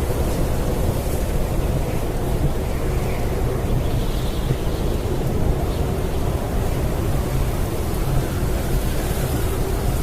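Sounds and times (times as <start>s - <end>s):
blizzard wind blowing: 0.0s - 10.0s.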